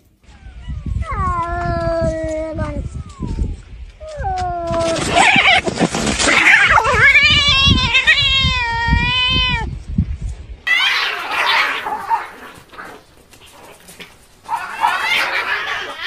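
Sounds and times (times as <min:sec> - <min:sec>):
cats yowling and screeching: 0:00.2 - 0:09.7, 0:10.7 - 0:16.0.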